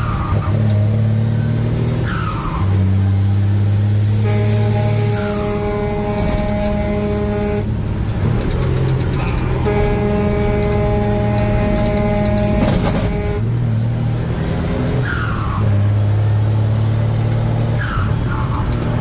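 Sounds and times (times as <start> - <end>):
truck engine drone: 0.0 - 19.0.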